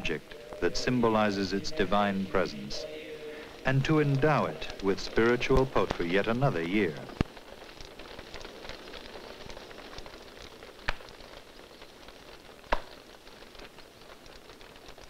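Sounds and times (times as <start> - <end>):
burning wood crackling and popping: 0.0 - 15.0.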